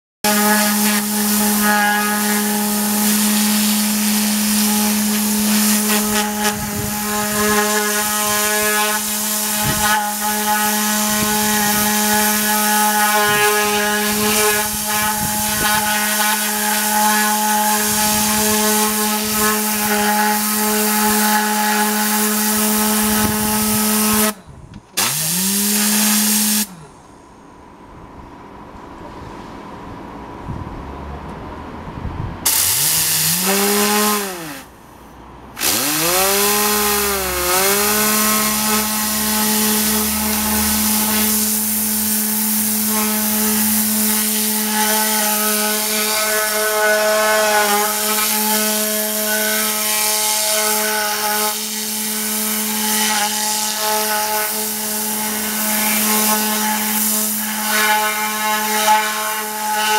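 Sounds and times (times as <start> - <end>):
nozzle tube buzzing hum: 0.2 - 28.8, 32.2 - 59.9
compressed air hissing: 0.3 - 24.4, 25.0 - 27.0, 32.4 - 35.0, 35.6 - 59.9.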